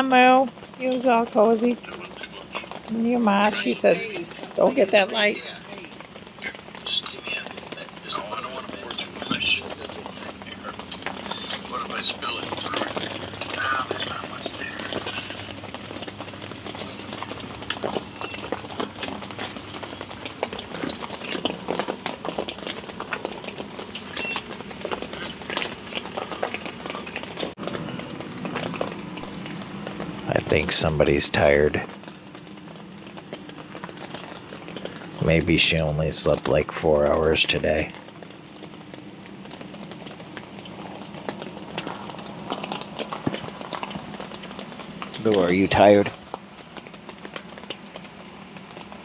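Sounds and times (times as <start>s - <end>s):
faint low hum: 0.0s - 46.2s
rain falling on a tent: 0.0s - 49.0s.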